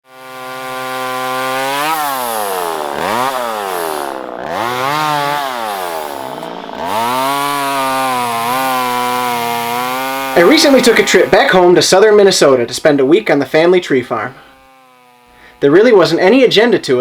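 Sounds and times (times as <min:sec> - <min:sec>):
chainsaw running at high revs: 0:00.0 - 0:11.7, 0:14.3 - 0:16.7.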